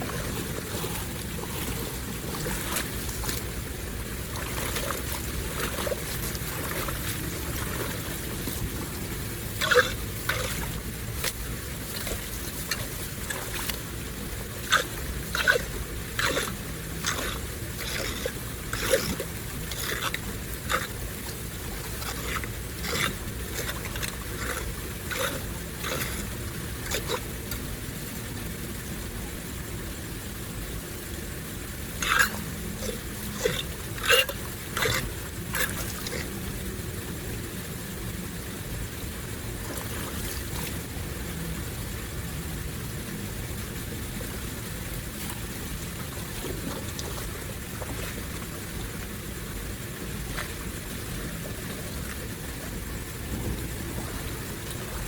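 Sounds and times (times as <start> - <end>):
water rushing: 0.0 - 55.0.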